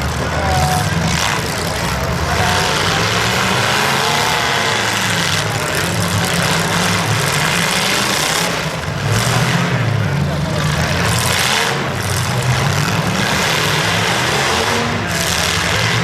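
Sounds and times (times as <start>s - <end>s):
car engines running loudly: 0.0s - 16.0s.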